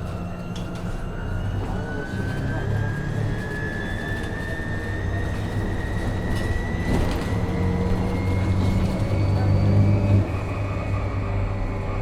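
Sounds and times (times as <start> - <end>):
bus drive hum with whine: 0.0 - 12.0.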